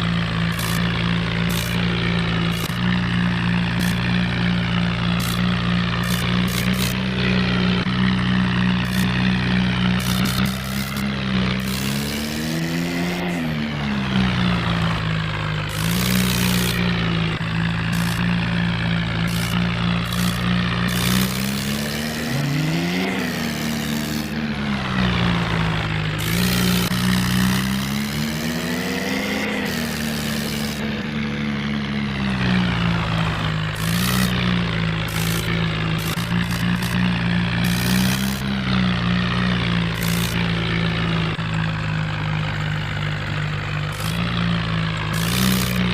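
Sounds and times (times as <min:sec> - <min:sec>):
electric gear motors whining: 0:00.0 - 0:45.9
gears and wheels clicking: 0:00.0 - 0:45.9
toy tractors droning: 0:00.0 - 0:45.9.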